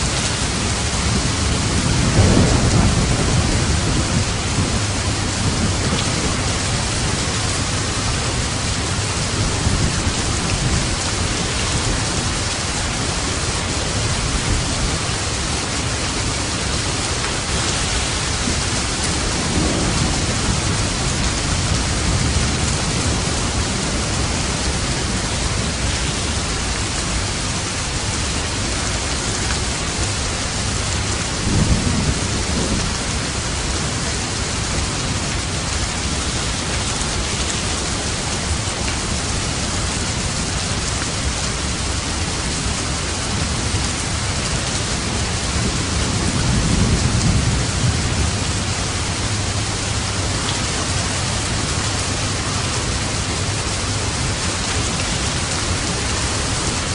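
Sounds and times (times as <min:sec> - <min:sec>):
low thunder rumble: 0:00.0 - 0:27.8, 0:29.9 - 0:56.9
dense rainfall: 0:00.0 - 0:56.9.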